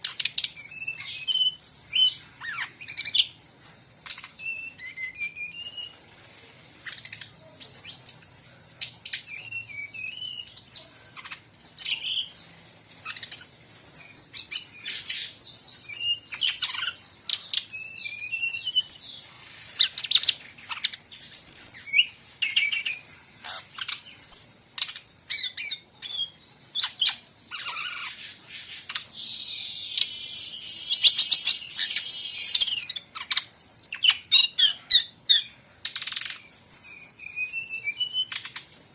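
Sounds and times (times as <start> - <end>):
bird singing whistles and chirps: 0.0 - 38.9
other birds calling: 0.0 - 38.9.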